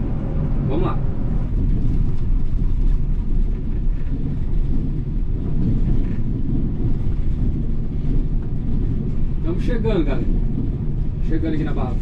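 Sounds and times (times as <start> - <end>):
coach engine rumble: 0.0 - 12.0
road noise: 0.0 - 12.0.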